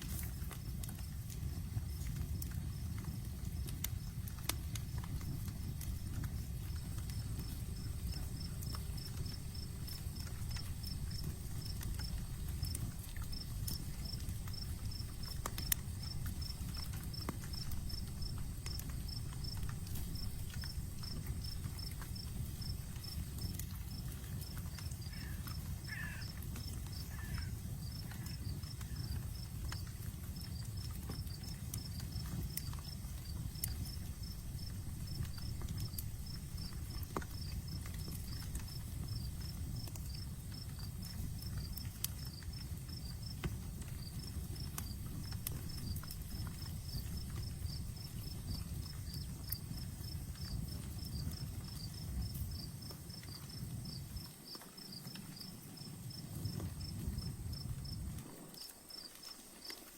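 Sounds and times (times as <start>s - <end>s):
campfire crackling and popping: 0.0s - 59.9s
crickets chirping: 0.2s - 59.9s.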